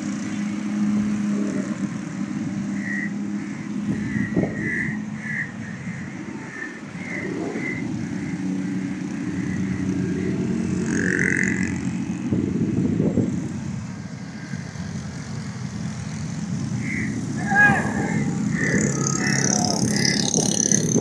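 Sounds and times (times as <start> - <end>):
passing vehicle engines humming: 0.0 - 21.0.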